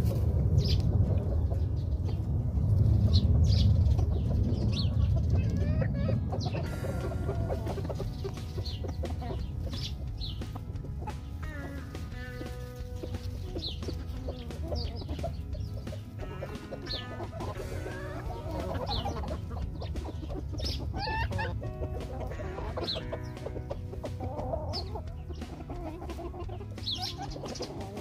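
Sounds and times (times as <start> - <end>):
hens clucking: 0.0 - 28.0
quiet background music: 0.0 - 28.0.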